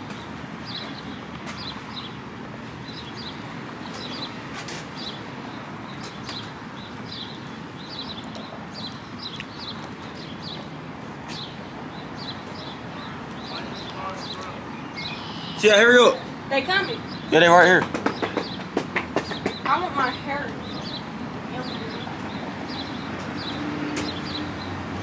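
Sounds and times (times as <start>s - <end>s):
small birds chirping: 0.0s - 2.2s, 2.8s - 25.0s.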